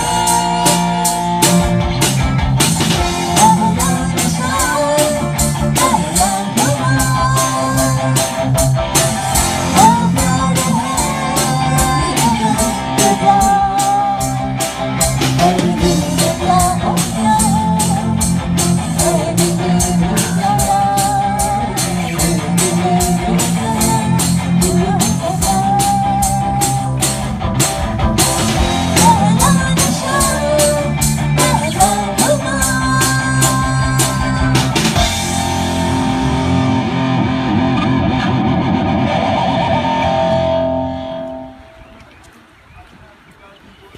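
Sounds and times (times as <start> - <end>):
drum kit beat: 0.0 - 40.4
rock band playing: 0.0 - 41.9.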